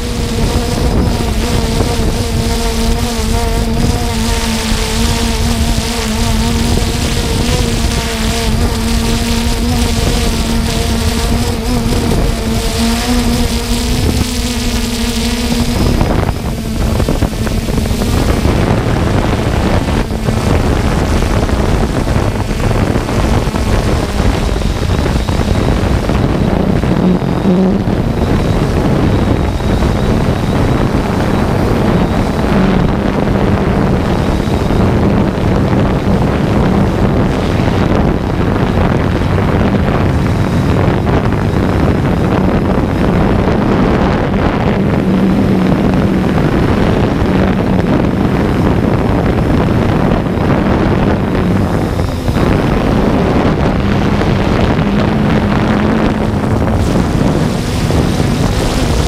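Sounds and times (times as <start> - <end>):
quadcopter propellers droning: 0.0 - 59.0
wind rush on microphone: 0.0 - 59.0.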